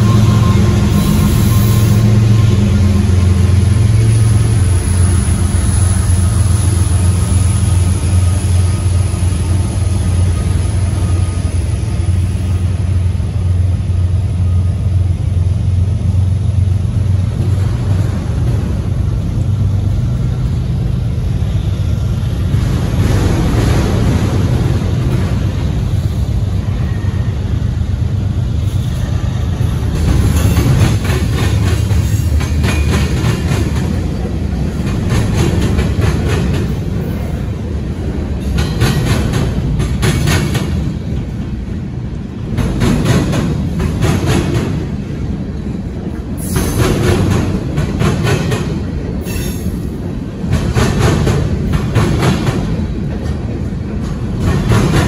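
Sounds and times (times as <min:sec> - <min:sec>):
locomotive engine humming: 0:00.0 - 0:55.0
train cars rumbling over rails: 0:00.0 - 0:55.0.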